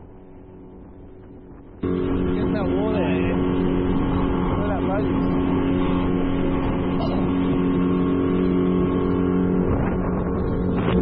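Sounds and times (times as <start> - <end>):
outboard motor running: 0.0 - 11.0
wake and wind rushing: 0.0 - 11.0.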